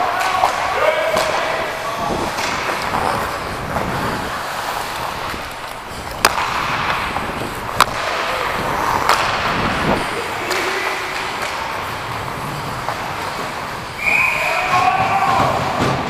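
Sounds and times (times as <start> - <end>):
hockey gear clacking: 0.0 - 16.0
skates scraping on ice: 0.0 - 16.0.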